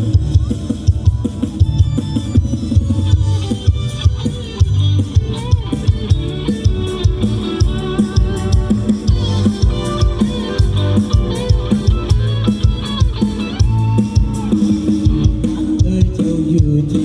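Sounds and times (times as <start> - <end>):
bass guitar: 0.0 - 17.0
drum kit beat: 0.0 - 17.0
guitar melody: 0.0 - 17.0.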